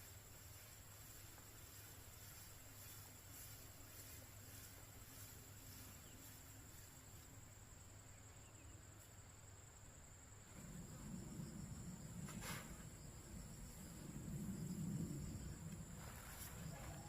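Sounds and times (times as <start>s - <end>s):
insect chorus chirring: 0.0s - 17.0s
quiet rural ambience: 0.0s - 17.0s.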